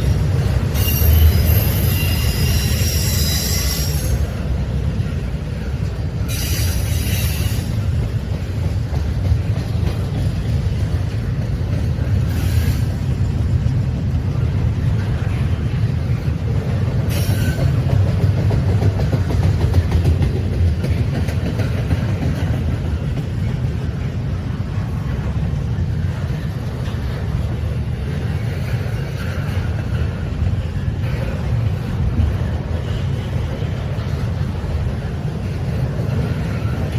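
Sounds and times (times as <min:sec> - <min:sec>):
train rumbling on rails: 0:00.0 - 0:36.9.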